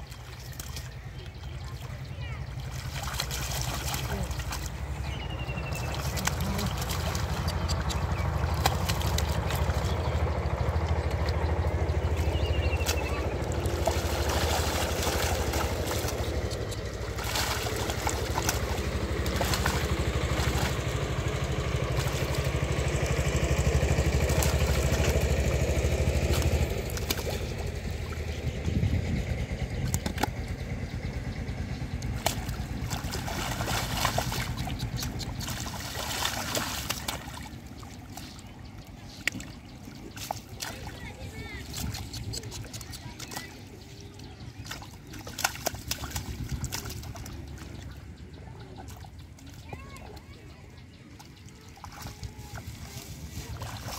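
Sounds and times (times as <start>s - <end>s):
low engine-like drone: 0.0s - 53.9s
muddy water splashing: 0.0s - 53.9s.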